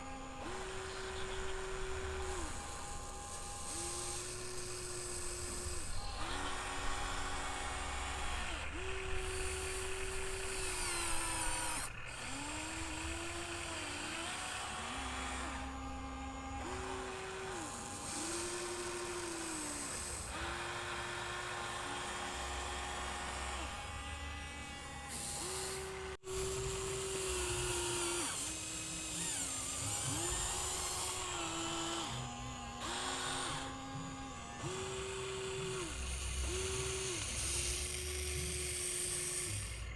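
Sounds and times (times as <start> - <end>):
toy excavator electric motors whining: 0.0 - 39.9.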